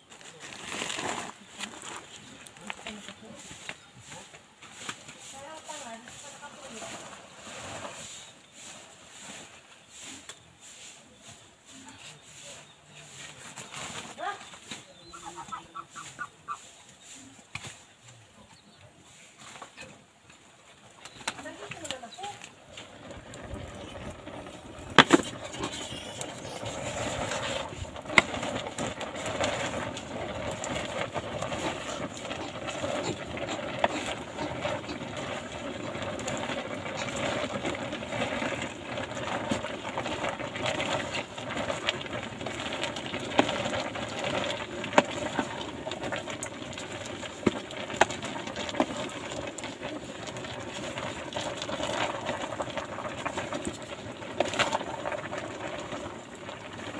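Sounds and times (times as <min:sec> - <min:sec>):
pot boiling hiss: 0:00.0 - 0:56.9.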